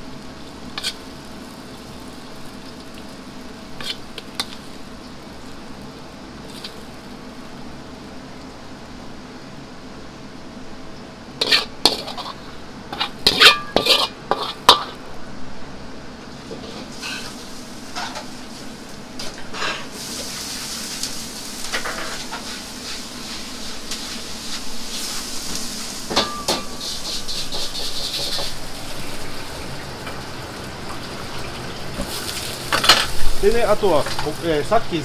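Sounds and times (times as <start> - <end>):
oil sizzling: 0.0 - 15.5, 16.1 - 35.0.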